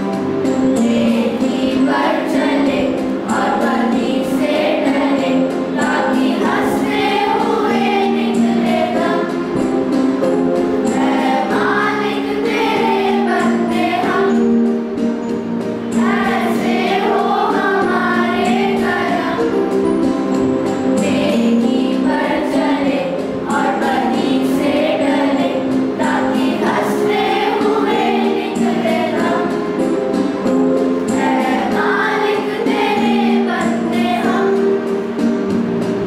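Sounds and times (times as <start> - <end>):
girls' choir singing in unison: 0.0 - 19.9, 20.7 - 35.8.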